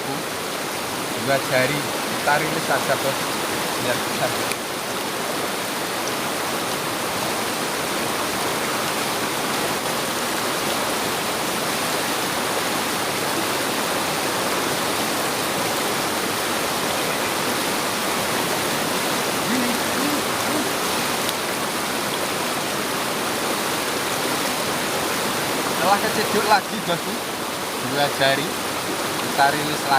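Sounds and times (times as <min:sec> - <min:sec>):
river water flowing: 0:00.0 - 0:29.9.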